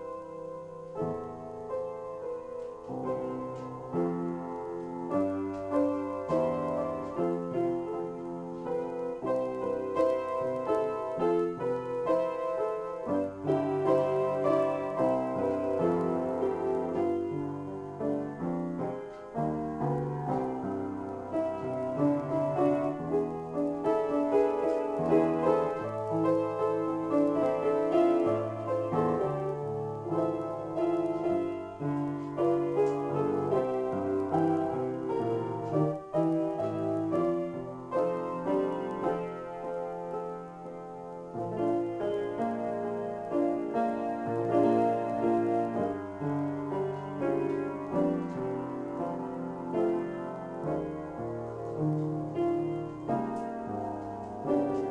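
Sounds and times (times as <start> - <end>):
upright piano solo: 0.0 - 54.9.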